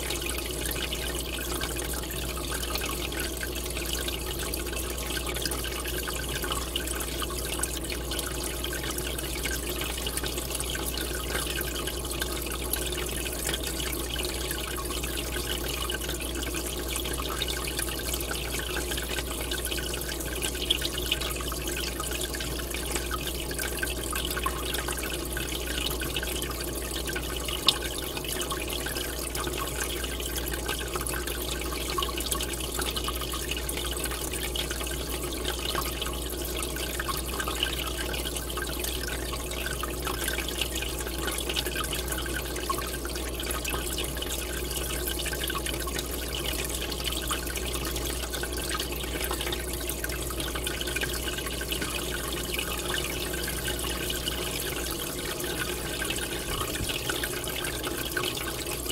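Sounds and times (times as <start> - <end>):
bubbles fizzing and splashing: 0.0 - 58.9
low steady hum: 0.0 - 58.9.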